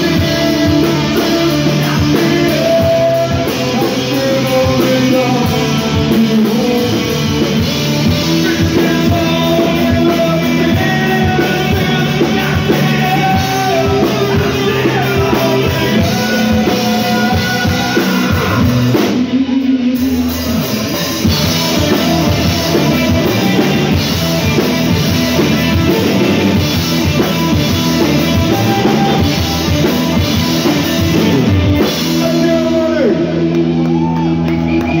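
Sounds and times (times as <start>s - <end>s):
man singing: 0.0s - 33.6s
live rock band playing: 0.0s - 35.0s.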